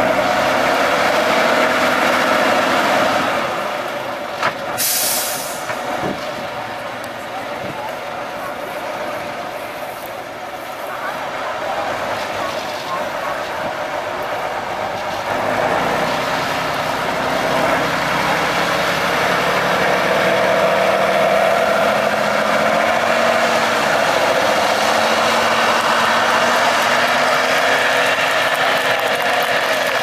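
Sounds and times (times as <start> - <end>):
truck diesel engine working hard: 0.0 - 30.0.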